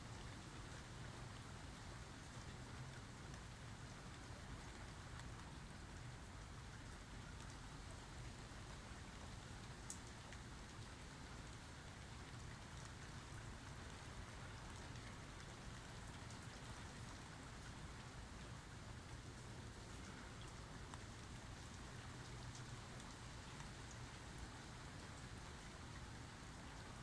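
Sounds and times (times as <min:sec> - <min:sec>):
light rain patter: 0:00.0 - 0:27.0.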